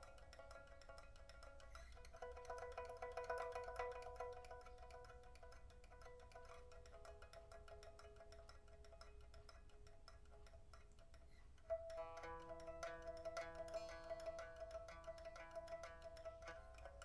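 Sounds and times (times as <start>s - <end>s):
pipa tremolo plucking: 0.0s - 17.0s.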